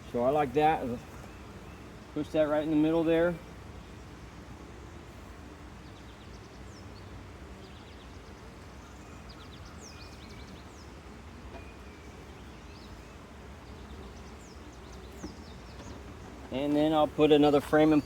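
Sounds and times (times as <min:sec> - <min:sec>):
bees humming: 0:00.0 - 0:18.0.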